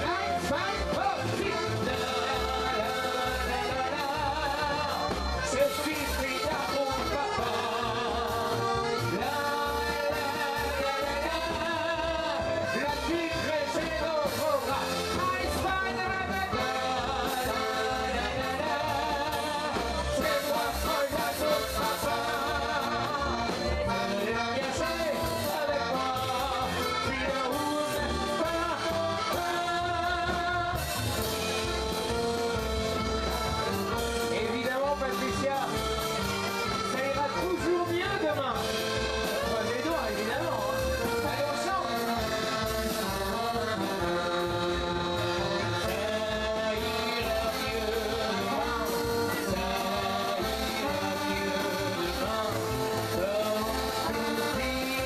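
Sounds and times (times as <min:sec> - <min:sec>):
accordion: 0:00.0 - 0:55.0
live band playing dance tune: 0:00.0 - 0:55.0
man singing into microphone: 0:00.0 - 0:55.0.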